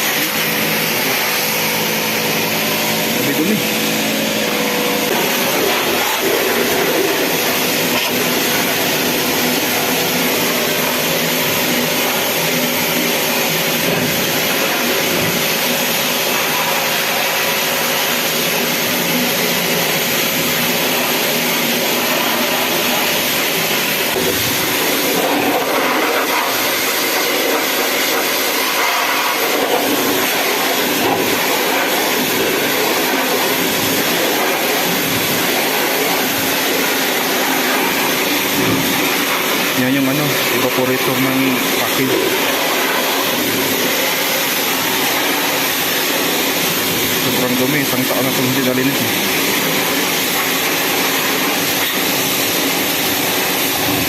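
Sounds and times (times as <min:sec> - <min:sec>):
machinery roaring: 0:00.0 - 0:54.0.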